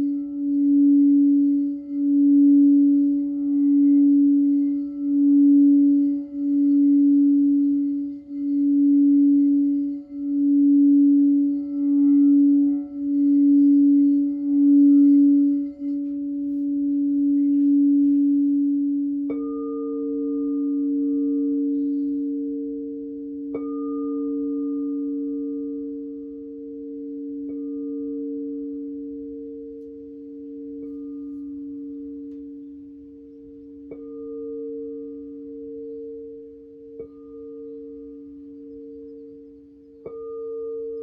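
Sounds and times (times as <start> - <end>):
singing bowl struck: 0.0 - 41.0
singing bowls ringing: 0.0 - 41.0.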